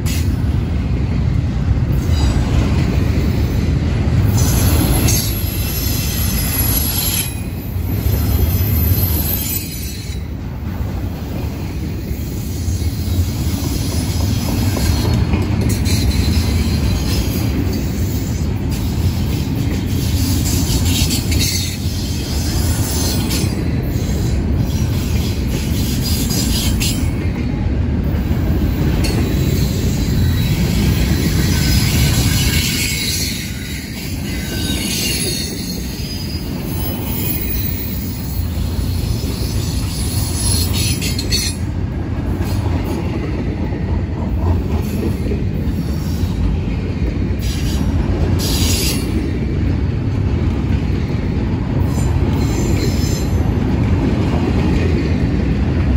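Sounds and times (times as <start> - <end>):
steel wheels rumbling on rail: 0.0 - 55.9.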